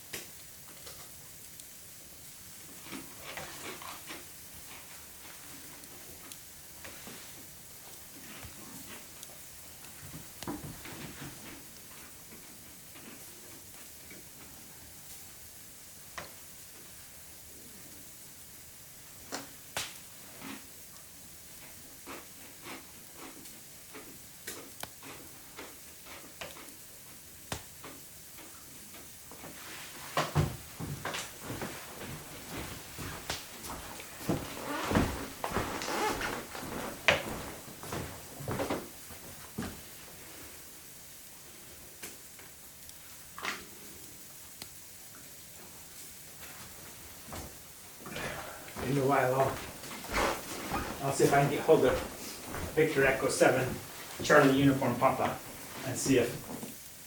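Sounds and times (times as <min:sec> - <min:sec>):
wood fire crackling and popping: 0:00.0 - 0:17.2, 0:17.9 - 0:57.0
faint steady hiss: 0:00.0 - 0:57.0.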